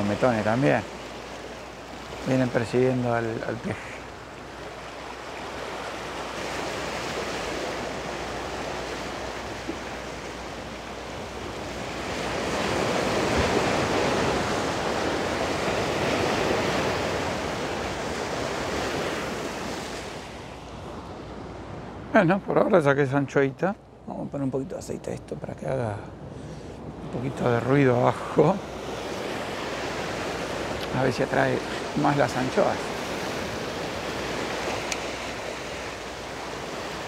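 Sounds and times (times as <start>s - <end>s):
sea surf washing against rocks: 0.0s - 21.0s, 26.9s - 37.0s.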